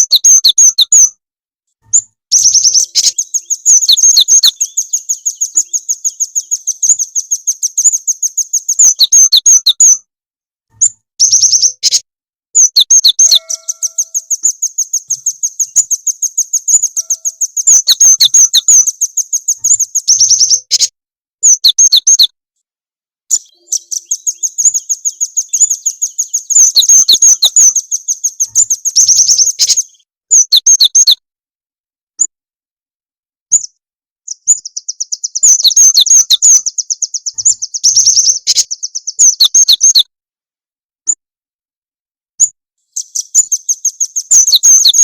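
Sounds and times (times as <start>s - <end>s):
rapid high thin bird chirps: 0.0s - 1.2s, 1.8s - 10.1s, 10.7s - 22.4s, 23.3s - 31.2s, 33.5s - 40.1s, 42.4s - 45.0s.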